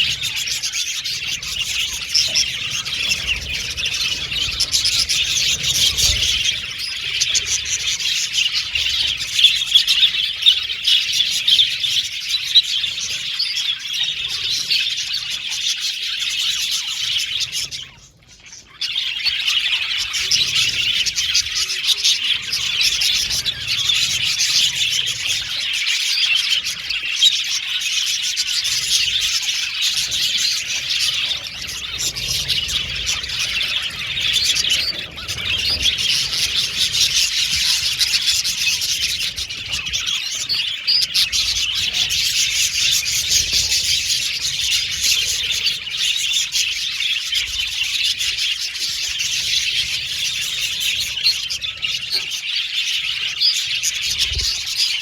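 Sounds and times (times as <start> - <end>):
budgerigars chirping and warbling: 0.0 - 55.0.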